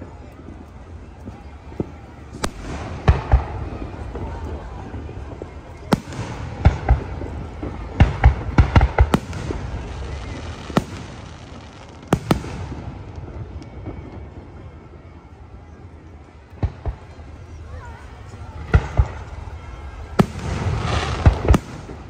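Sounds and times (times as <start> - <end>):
fireworks bursting with sharp bangs: 0.0 - 22.0.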